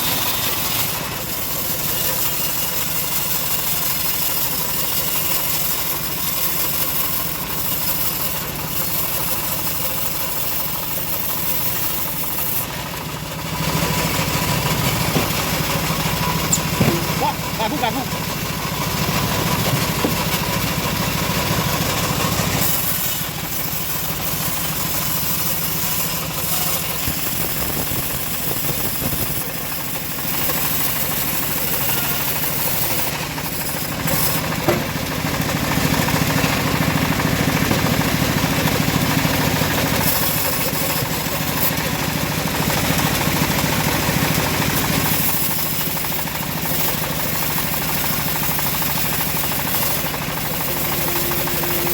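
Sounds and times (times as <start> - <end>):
saw cutting wood: 0.0 - 51.9
sawmill engine running: 0.0 - 51.9.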